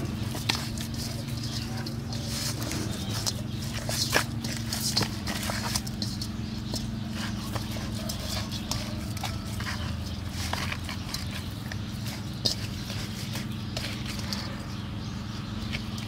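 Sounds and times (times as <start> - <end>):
wet handling in metal basin: 0.0 - 16.0.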